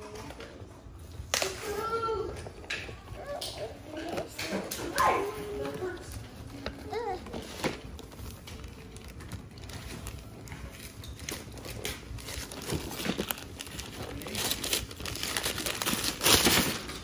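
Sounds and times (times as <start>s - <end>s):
wrapping paper crinkling and tearing: 3.2s - 17.0s.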